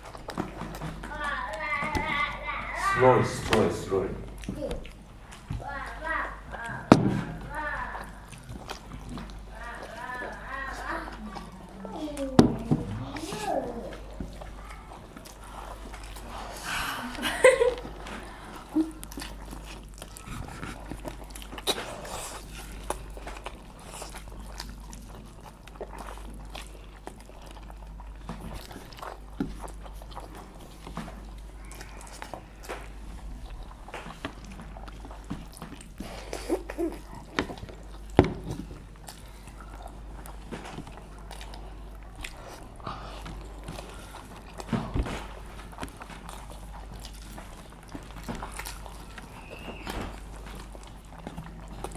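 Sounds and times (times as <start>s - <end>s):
people chewing: 0.0s - 51.9s
steady low hum: 0.0s - 51.9s.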